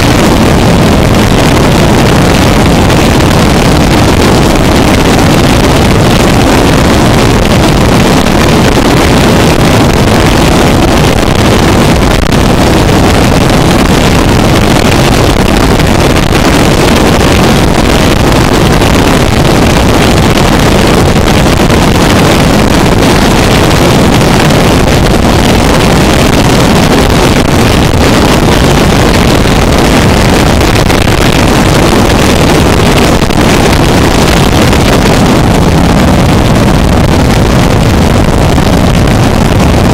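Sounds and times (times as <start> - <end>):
distorted noise music: 0.0 - 39.9.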